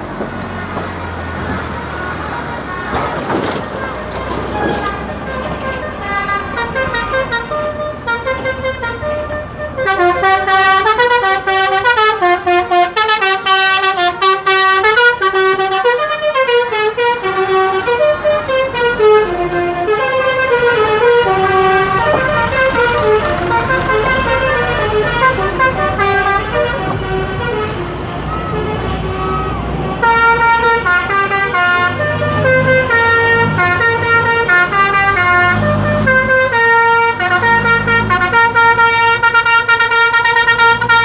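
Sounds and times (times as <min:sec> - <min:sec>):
musical bus horns melody: 0:00.0 - 0:41.0.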